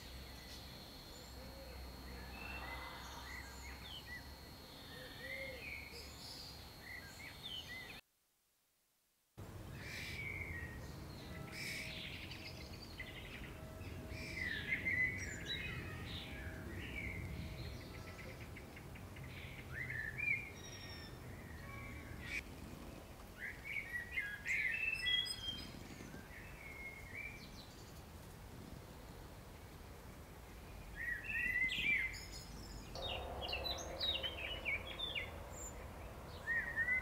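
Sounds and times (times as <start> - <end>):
songbirds singing and chirping: 0.0 - 8.0, 9.6 - 37.0.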